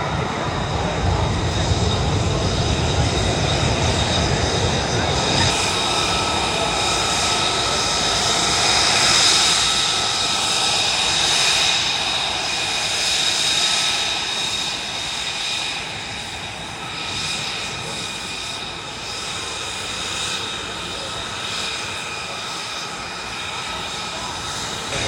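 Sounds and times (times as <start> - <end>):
aircraft engine rush with whine: 0.0 - 25.0.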